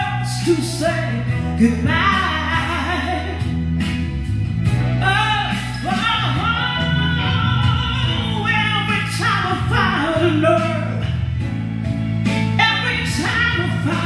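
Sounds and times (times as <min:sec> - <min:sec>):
person singing soul ballad: 0:00.0 - 0:14.0.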